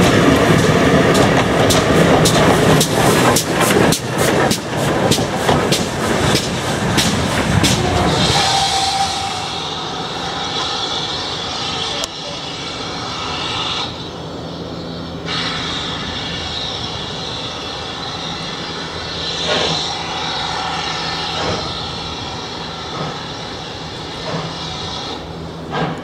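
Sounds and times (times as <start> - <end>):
steam locomotive rushing: 0.0 - 26.0.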